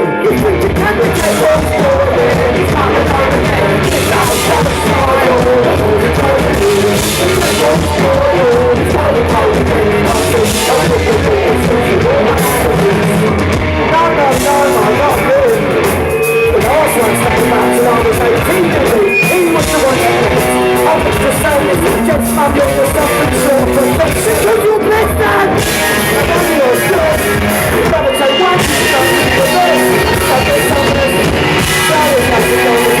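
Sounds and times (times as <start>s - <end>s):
drums: 0.0s - 33.0s
electric guitar: 0.0s - 33.0s
person singing: 0.0s - 33.0s.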